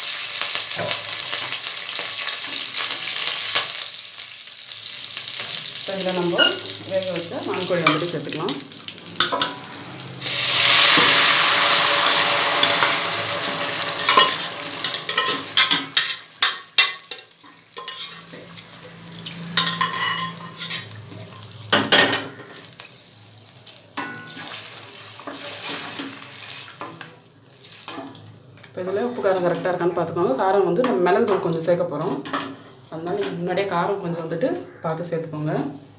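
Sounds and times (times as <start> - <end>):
loud sizzle in hot oil: 0.0 - 29.4.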